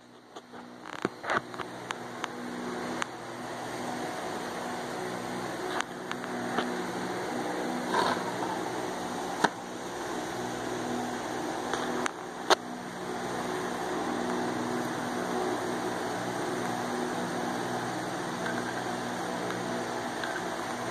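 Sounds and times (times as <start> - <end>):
steady mechanical hum: 0.0 - 20.9.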